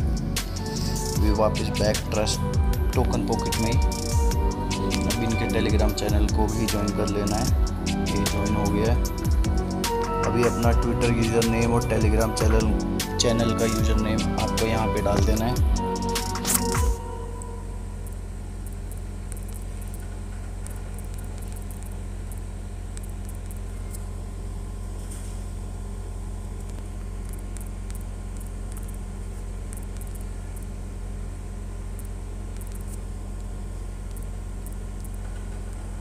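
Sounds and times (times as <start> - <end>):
low background hum: 0.0 - 36.0.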